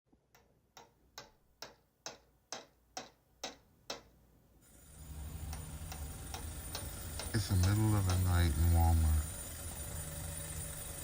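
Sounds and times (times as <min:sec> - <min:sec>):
mechanical ticking: 0:00.2 - 0:04.1, 0:05.0 - 0:11.0.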